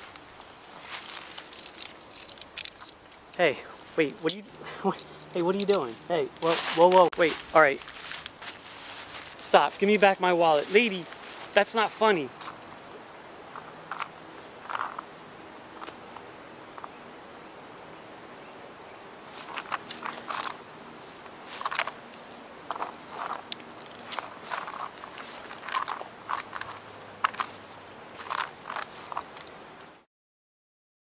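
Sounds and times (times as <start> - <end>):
dry leaves and twigs crunching: 0.0 - 15.1, 19.2 - 30.0
outdoor hiss: 0.0 - 30.1.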